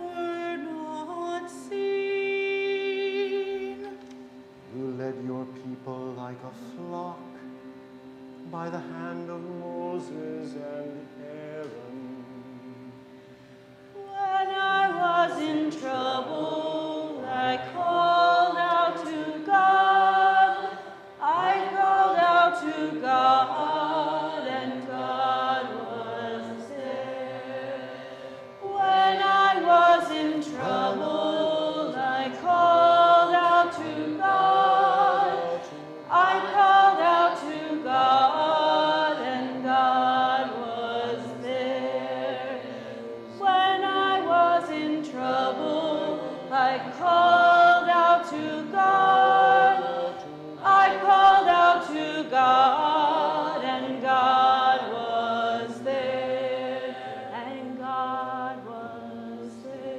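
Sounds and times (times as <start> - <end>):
congregation singing a hymn: 0.0 - 12.9, 14.0 - 59.9.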